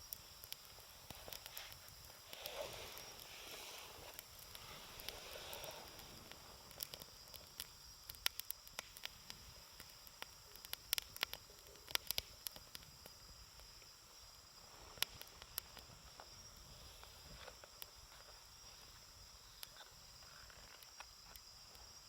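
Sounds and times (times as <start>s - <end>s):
campfire wood crackling and popping: 0.0s - 22.0s
faint steady hiss: 0.0s - 22.0s.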